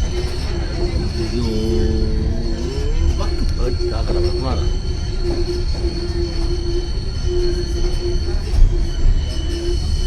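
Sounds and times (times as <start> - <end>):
high steady squeal: 0.0 - 10.0
train wheels rumbling: 0.0 - 10.0.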